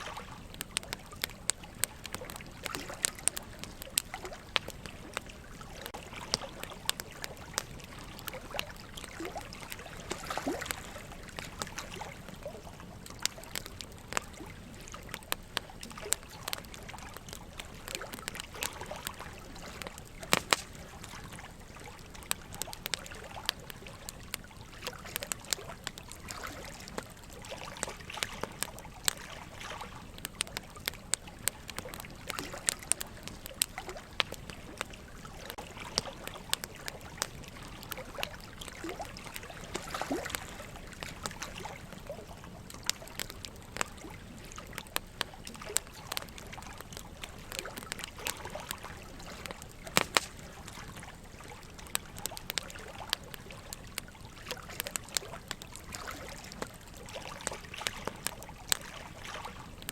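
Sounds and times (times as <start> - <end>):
burning logs crackling: 0.0 - 59.9
running water trickling: 0.0 - 59.9.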